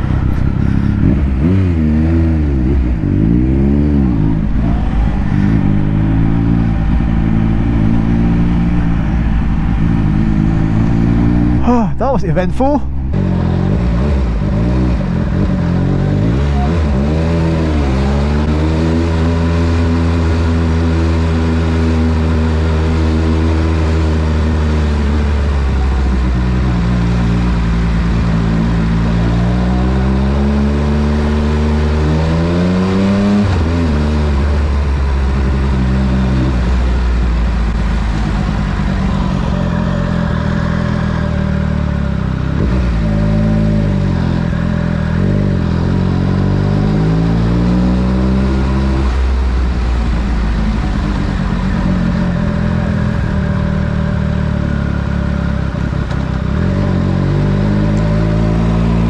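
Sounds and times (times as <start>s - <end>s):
motorcycle engine revving: 0.0s - 12.0s, 12.8s - 59.0s.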